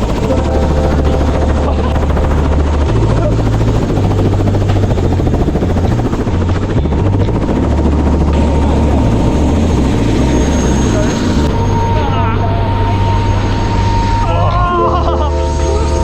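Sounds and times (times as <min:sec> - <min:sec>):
helicopter rotor chop: 0:00.0 - 0:16.0.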